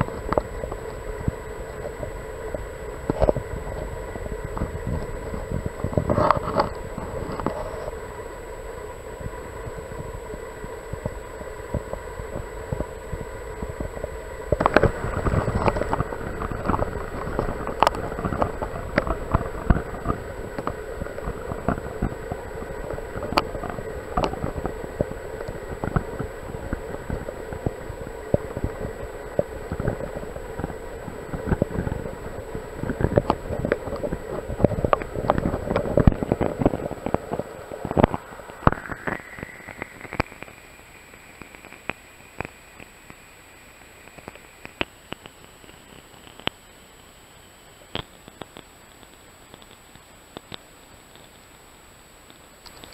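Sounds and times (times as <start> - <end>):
underwater clicks and crackles: 0.0 - 46.8, 47.6 - 52.9
muffled underwater stream rush: 0.0 - 48.2
faint high-pitched whine: 0.0 - 52.9.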